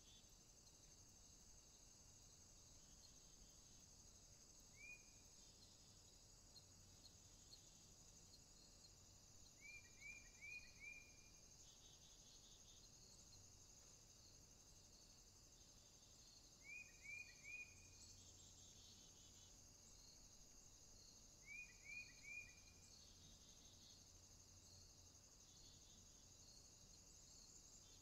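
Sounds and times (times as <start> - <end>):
insect chorus: 0.0 - 28.0.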